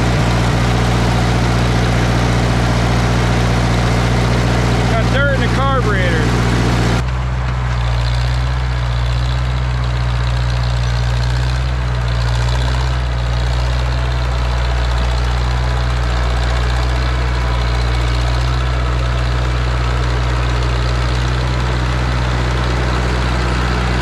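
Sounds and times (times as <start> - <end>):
dozer engine droning: 0.0 - 24.0.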